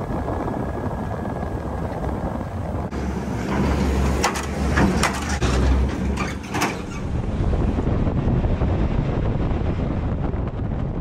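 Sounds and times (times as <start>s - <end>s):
vehicle rattles and clanks: 0.0s - 10.8s
low rumble: 0.0s - 11.0s
road and wind noise: 0.0s - 11.0s.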